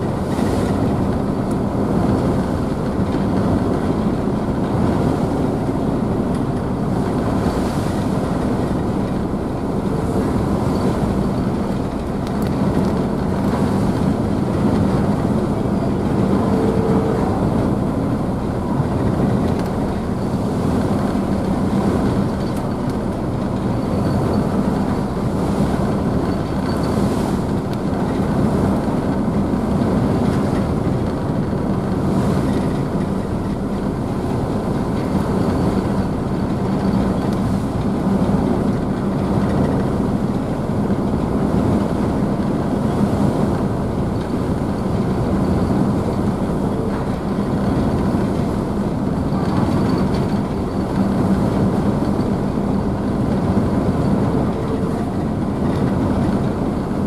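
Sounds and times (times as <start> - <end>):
ship engines humming: 0.0 - 57.0
wake and waves splashing: 0.0 - 57.0.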